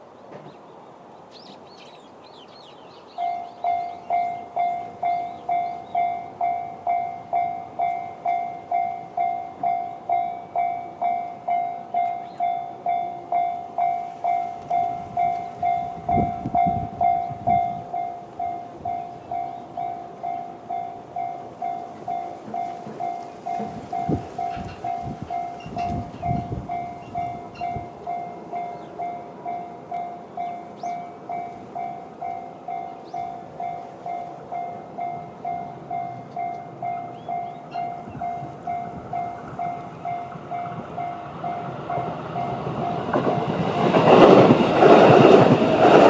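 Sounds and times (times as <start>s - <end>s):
birds chirping: 0.1s - 8.0s, 11.5s - 16.0s, 16.6s - 42.1s
level crossing alarm ringing: 3.2s - 44.7s.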